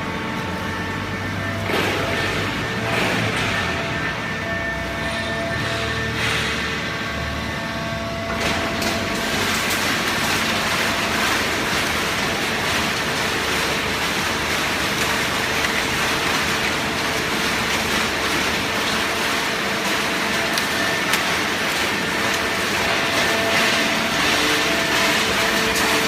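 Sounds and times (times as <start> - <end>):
baler machine running: 0.0 - 26.0.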